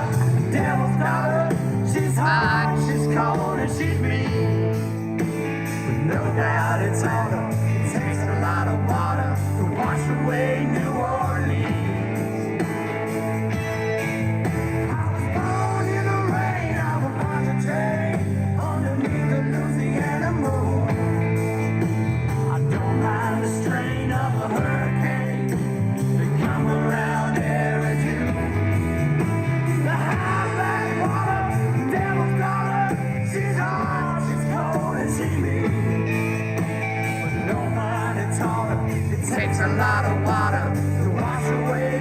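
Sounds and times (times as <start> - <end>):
person singing: 0.0 - 21.4, 22.4 - 42.0
rock song with guitar: 0.0 - 42.0.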